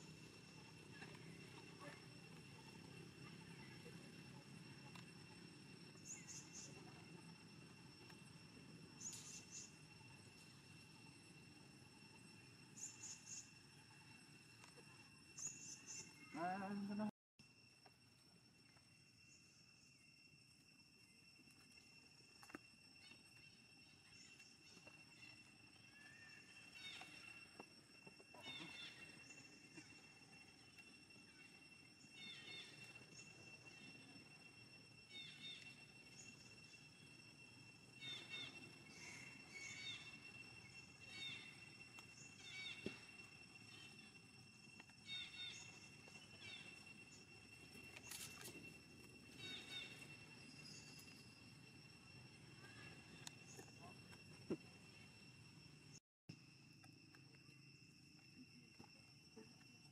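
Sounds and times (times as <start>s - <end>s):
high-pitched insect drone: 0.0s - 59.9s
steady high-pitched whine: 0.0s - 59.9s.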